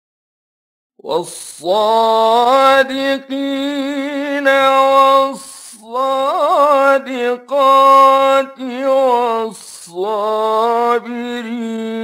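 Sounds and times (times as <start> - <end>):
man chanting melodic recitation: 1.1 - 12.0.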